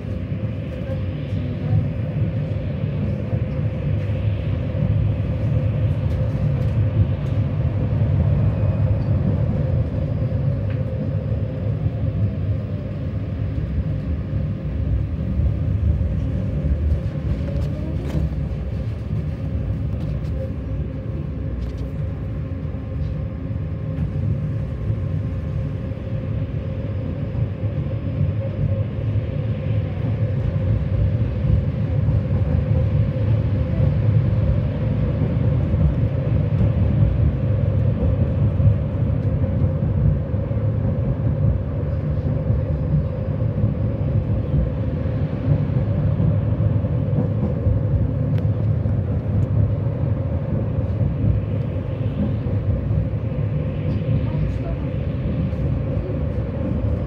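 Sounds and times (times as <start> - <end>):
steady hum: 0.0 - 57.0
tram wheels rumbling on rails: 0.0 - 57.0.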